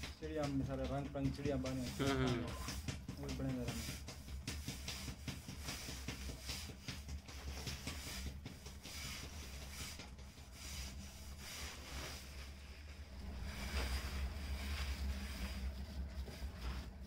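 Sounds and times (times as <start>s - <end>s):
potter's wheel humming: 0.0s - 17.0s
wet hands swishing on clay: 1.8s - 17.0s.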